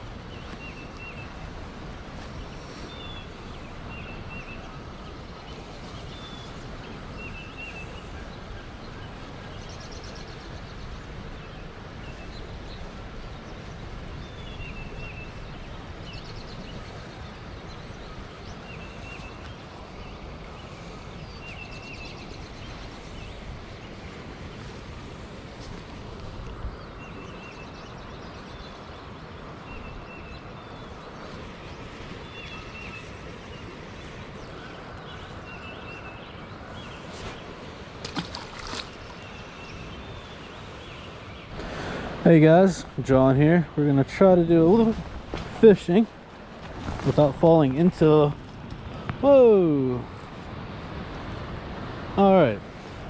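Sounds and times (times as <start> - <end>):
small birds chirping: 0.0 - 53.0
stream rushing: 0.0 - 53.0.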